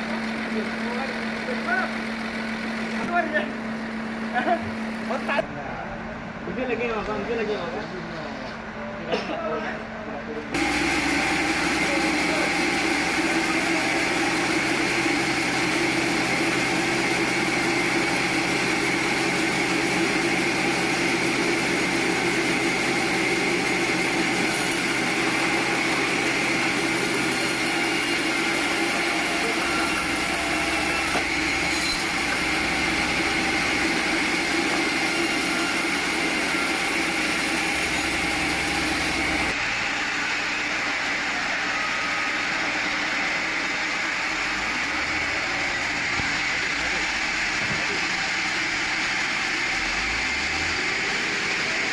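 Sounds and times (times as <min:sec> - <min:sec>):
sawmill machinery drone: 0:00.0 - 0:08.9, 0:09.8 - 0:51.9.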